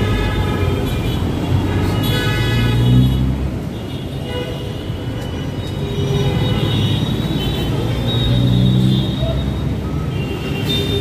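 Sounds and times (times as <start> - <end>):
bus and car engines passing: 0.0 - 3.8, 4.8 - 11.0.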